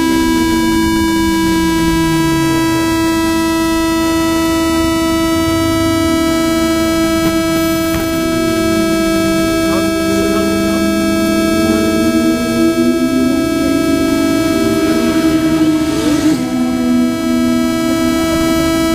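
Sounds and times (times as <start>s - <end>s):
low tone gliding downward: 0.0s - 18.9s
steady electrical buzz: 0.0s - 18.9s.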